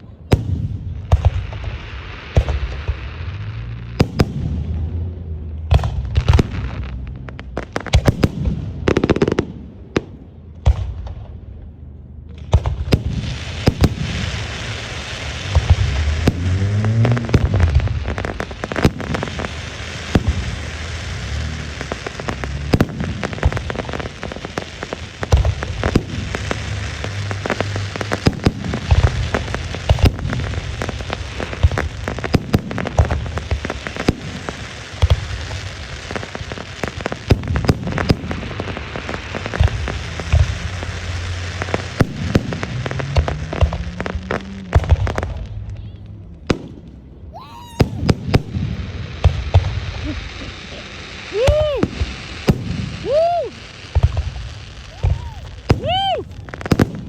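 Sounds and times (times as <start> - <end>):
firework bangs and booms: 0.0 - 11.7, 12.3 - 57.0
firework crackling hiss: 1.1 - 9.4, 12.7 - 45.7, 47.3 - 57.0.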